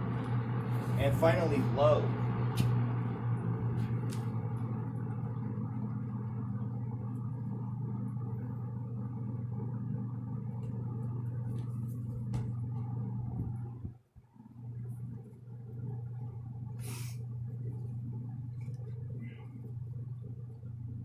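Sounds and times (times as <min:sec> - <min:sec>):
box fan running: 0:00.0 - 0:21.0.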